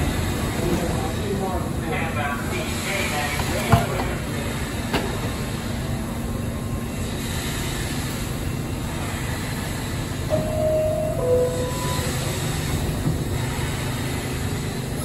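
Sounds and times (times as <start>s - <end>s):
subway train wheels on rail: 0.0s - 15.0s.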